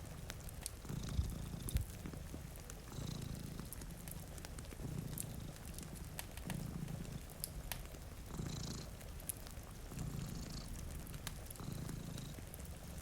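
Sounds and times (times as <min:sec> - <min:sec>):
cat purring: 0:00.0 - 0:13.0
rain hiss: 0:00.0 - 0:13.0
wood fire crackling: 0:00.0 - 0:13.0.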